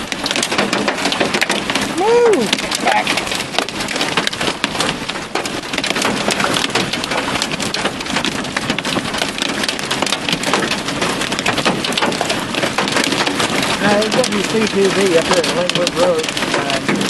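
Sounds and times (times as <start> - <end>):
hail and heavy rain pelting: 0.0 - 17.0.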